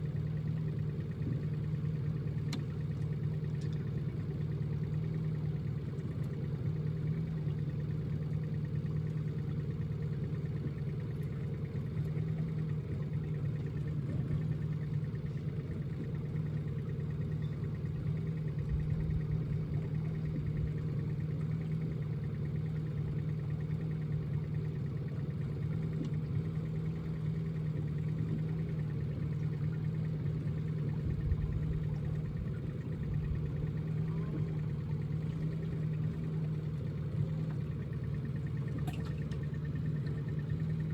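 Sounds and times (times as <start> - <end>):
boat motor running: 0.0 - 40.9.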